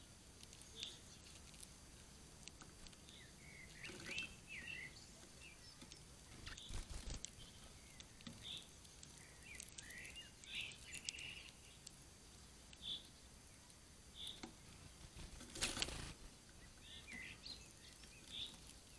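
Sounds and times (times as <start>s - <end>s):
songbirds chirping: 0.0s - 18.9s
birds pecking on wooden feeder: 0.1s - 18.9s.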